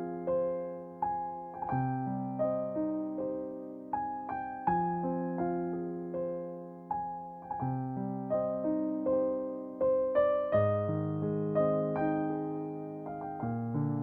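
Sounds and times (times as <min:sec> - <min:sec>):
slow soft piano music: 0:00.0 - 0:14.0.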